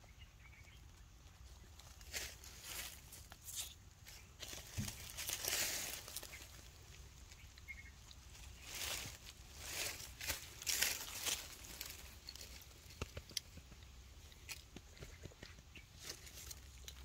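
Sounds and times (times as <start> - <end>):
rustling of dry leaves and clothing: 0.1 - 17.0.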